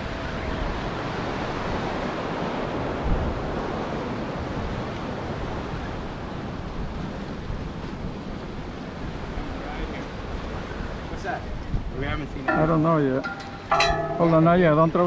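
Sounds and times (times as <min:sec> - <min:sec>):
ocean surf against pilings: 0:00.0 - 0:15.0
wind buffeting microphone: 0:00.0 - 0:15.0.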